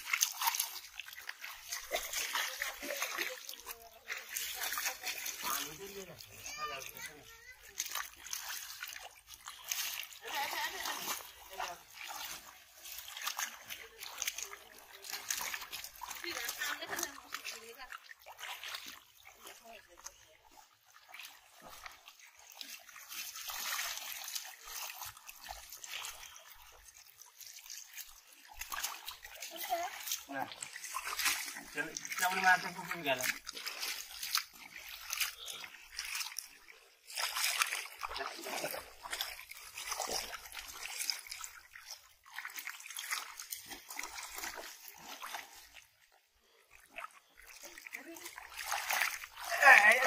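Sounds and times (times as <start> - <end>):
water dripping off fishing net: 0.0 - 50.0.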